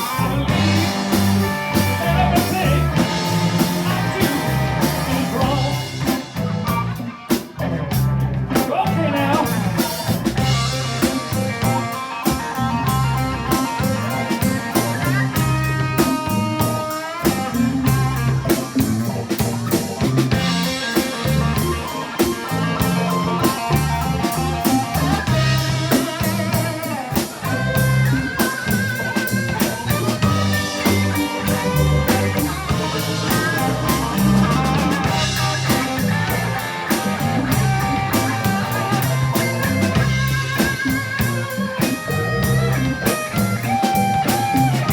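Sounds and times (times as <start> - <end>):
bass: 0.0 - 44.9
drum kit: 0.0 - 44.9
electric guitar bent notes: 0.0 - 44.9.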